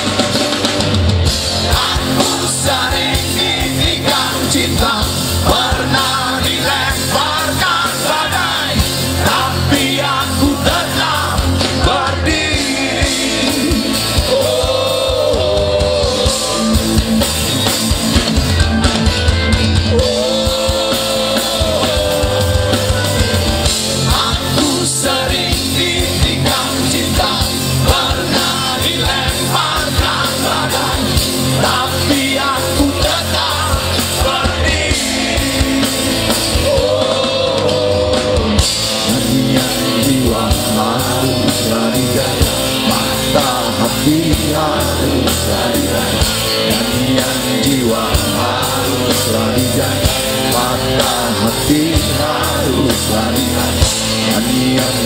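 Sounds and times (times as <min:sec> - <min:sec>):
rock band playing live: 0:00.0 - 0:55.0
person singing: 0:01.6 - 0:18.9, 0:19.8 - 0:55.0.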